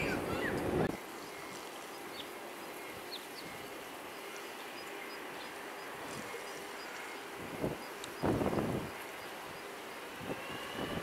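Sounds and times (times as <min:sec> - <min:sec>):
small birds chirping: 0:00.0 - 0:10.1.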